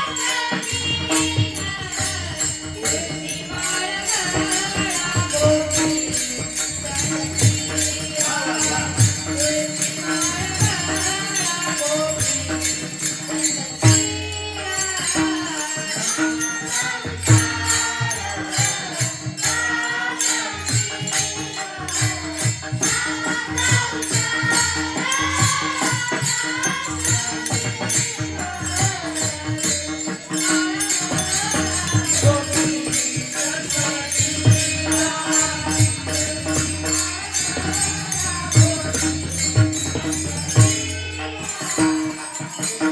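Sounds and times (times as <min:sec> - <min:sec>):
drum steady beat: 0:00.0 - 0:42.9
held drone note: 0:00.0 - 0:42.9
jingling hand cymbals: 0:00.0 - 0:42.9
person singing devotional song: 0:00.0 - 0:42.9.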